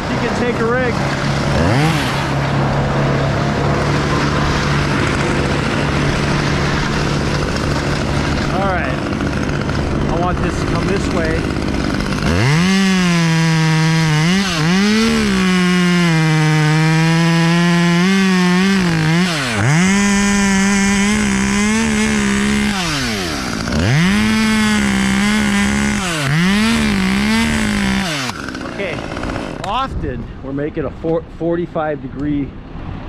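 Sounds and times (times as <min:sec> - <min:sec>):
chainsaw cutting wood: 0:00.0 - 0:29.8.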